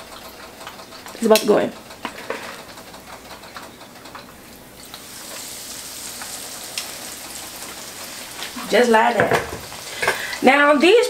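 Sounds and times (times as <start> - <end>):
hot oil frying sizzle: 0.0 - 11.0.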